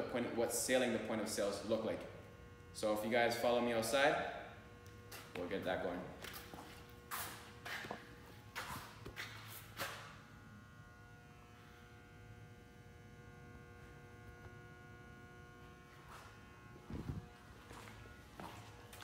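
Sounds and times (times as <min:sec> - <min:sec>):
faint electrical buzz: 0:00.0 - 0:19.0.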